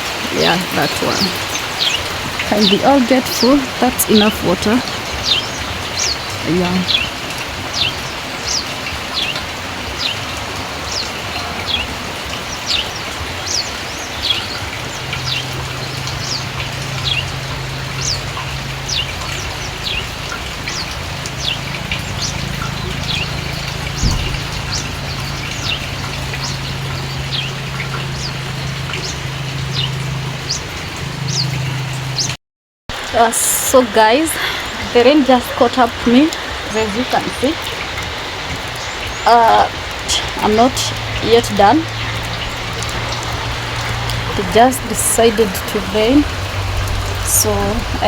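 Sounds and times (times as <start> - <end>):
small birds chirping: 0.0 - 32.4, 33.0 - 48.0
steady rain falling: 0.0 - 48.0.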